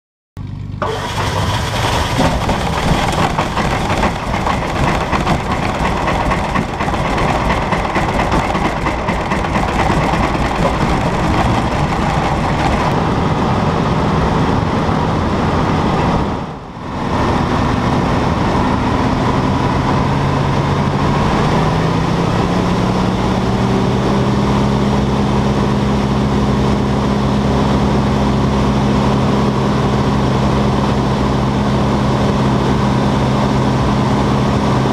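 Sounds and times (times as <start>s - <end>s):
aircraft radial engine running: 0.4s - 34.9s.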